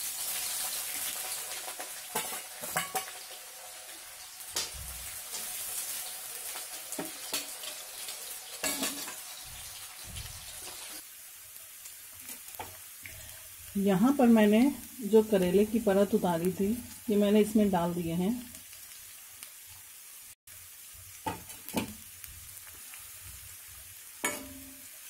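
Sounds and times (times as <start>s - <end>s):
onions sizzling in hot oil: 0.0s - 25.0s.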